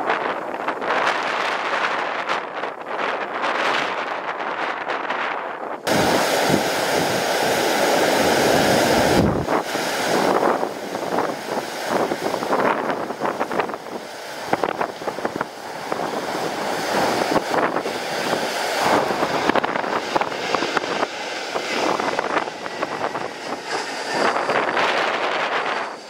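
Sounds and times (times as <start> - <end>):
gusty wind buffeting microphone: 0.0 - 26.0.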